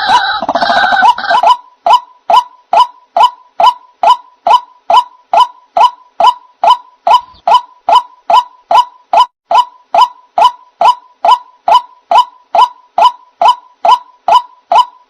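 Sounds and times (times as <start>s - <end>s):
repeated waterhen call: 0.0s - 15.0s.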